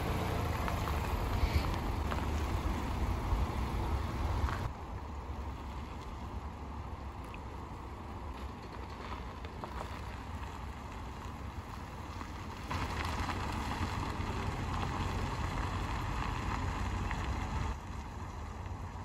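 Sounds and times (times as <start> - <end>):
cars driving on gravel: 0.0 - 19.0.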